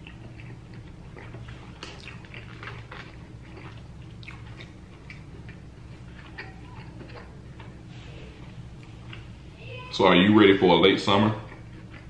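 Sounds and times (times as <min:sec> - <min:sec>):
chewing with wet clicks and crunches: 0:00.0 - 0:09.4, 0:11.0 - 0:12.0
low hum: 0:00.0 - 0:12.0.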